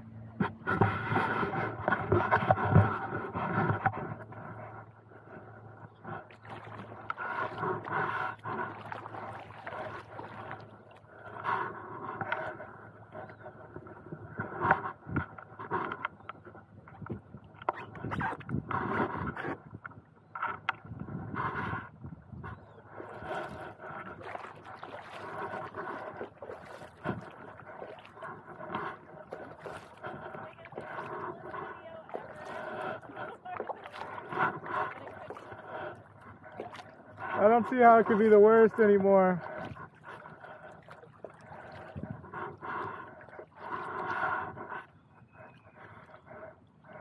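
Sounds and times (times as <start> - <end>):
paddle strokes splashing water: 0.4 - 47.0.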